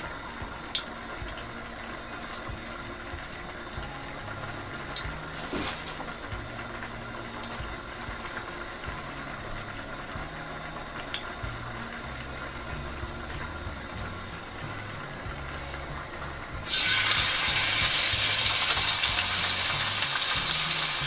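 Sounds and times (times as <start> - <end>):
low kitchen hum: 0.0 - 21.0.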